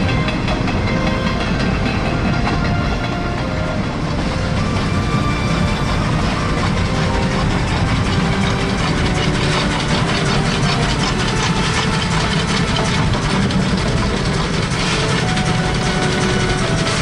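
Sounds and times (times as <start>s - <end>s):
steam locomotive exhaust beats: 0.0s - 17.0s.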